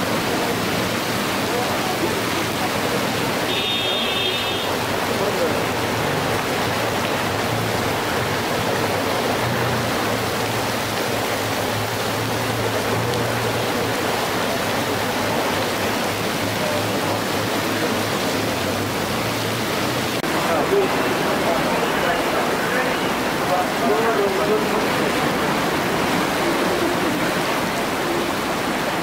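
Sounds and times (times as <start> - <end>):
heavy rain on pavement: 0.0 - 29.0
water gushing from drains: 0.0 - 29.0.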